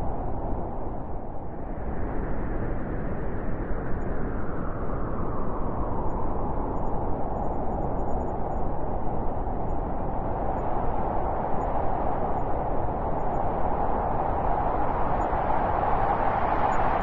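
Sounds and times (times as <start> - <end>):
blizzard wind rushing: 0.0 - 17.0.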